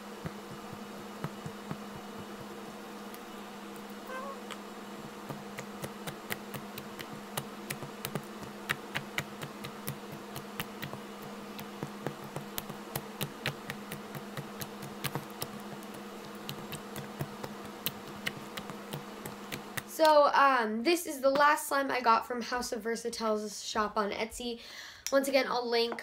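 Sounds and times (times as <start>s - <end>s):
steady low hum: 0.0s - 23.4s.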